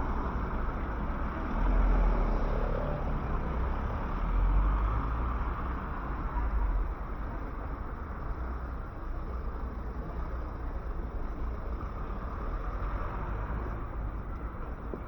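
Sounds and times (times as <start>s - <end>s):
hum of passing cars: 0.0s - 15.0s
vehicles rumbling by: 0.0s - 15.0s.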